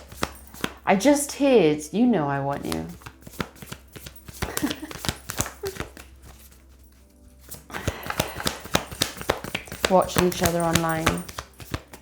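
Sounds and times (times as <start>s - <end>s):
cards being shuffled: 0.0s - 0.9s, 2.5s - 12.0s.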